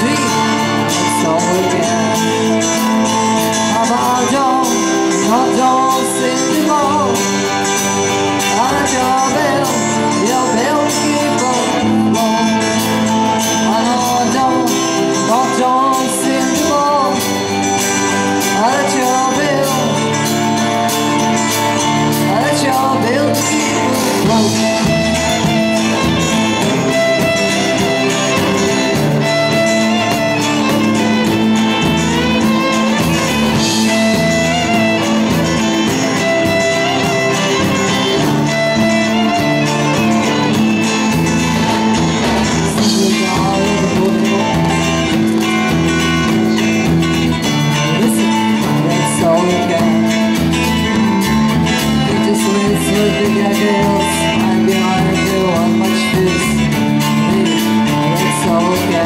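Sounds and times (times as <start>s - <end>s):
woman singing: 0.0s - 40.6s, 42.3s - 46.0s, 47.4s - 51.2s, 51.8s - 59.0s
bass guitar: 0.0s - 59.0s
electric guitar: 0.0s - 59.0s
fiddle: 0.0s - 59.0s.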